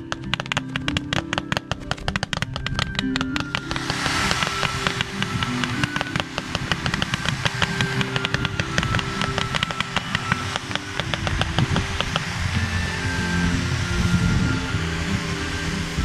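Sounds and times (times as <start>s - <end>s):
fireworks popping and crackling: 0.0s - 14.6s
fountain fireworks hissing: 0.0s - 16.0s.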